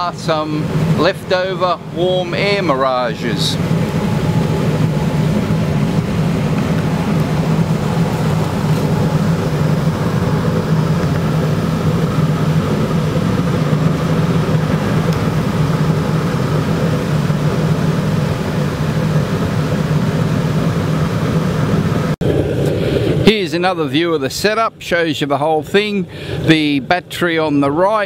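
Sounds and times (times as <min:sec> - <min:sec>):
low blower hum: 0:00.0 - 0:28.0
oil burner roaring: 0:00.0 - 0:28.0.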